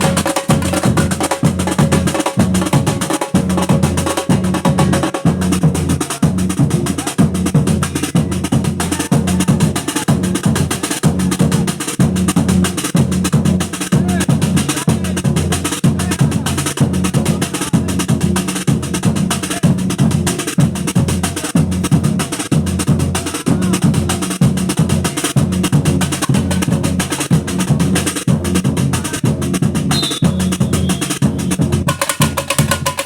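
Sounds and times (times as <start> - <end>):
samba percussion ensemble: 0.0 - 33.0.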